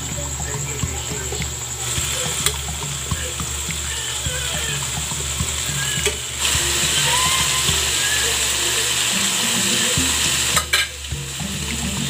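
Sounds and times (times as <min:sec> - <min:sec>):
food sizzling in hot oil: 0:00.3 - 0:12.0.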